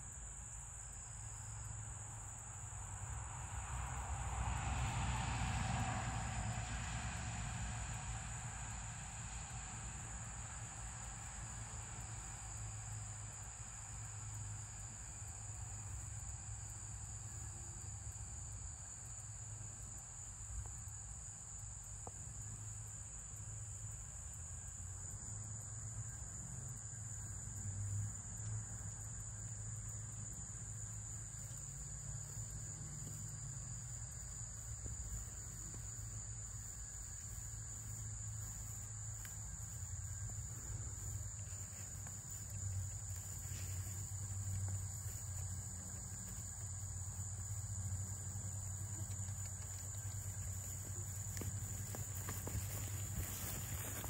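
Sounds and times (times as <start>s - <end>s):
insects chirring: 9.4s - 54.0s.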